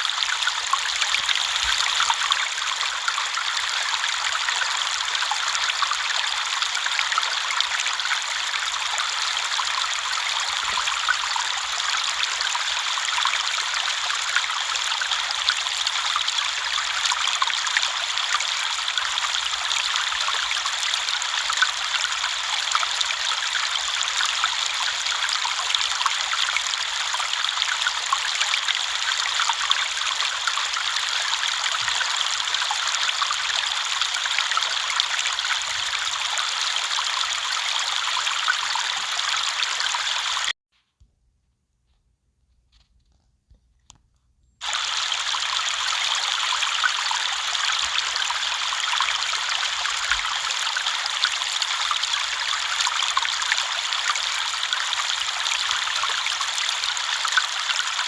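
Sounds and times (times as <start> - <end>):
river water babbling: 0.0 - 40.5, 44.6 - 58.0.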